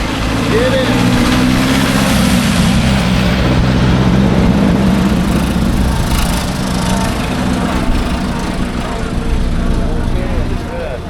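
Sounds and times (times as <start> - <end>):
car engines racing past: 0.0 - 11.0.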